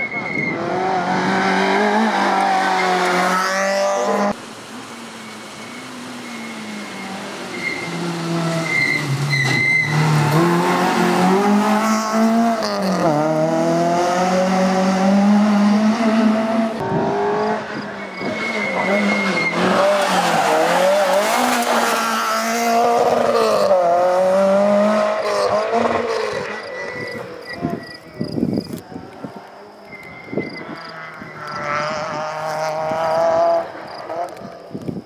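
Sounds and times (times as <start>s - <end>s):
rally car engine revving high: 0.5s - 4.4s, 5.5s - 27.9s, 30.7s - 34.6s
rally car approaching: 0.5s - 34.7s.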